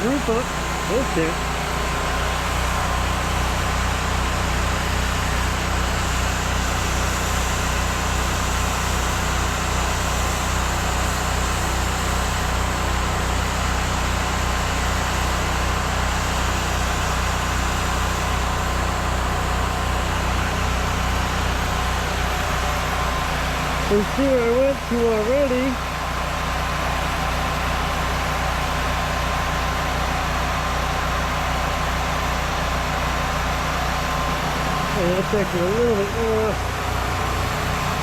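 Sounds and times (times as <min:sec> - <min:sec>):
generator engine running: 0:00.0 - 0:38.0.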